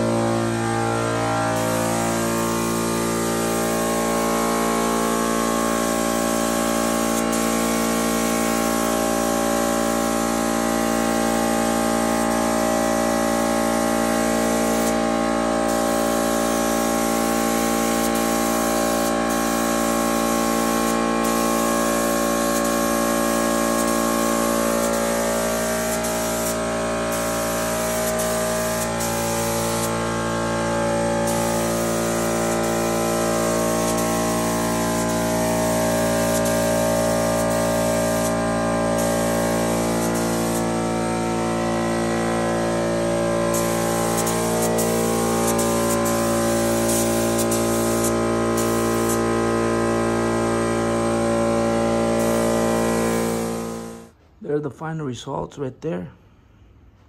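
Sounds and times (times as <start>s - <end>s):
air tool hissing: 0.0s - 50.3s, 51.4s - 54.1s
machine hum: 0.0s - 54.3s.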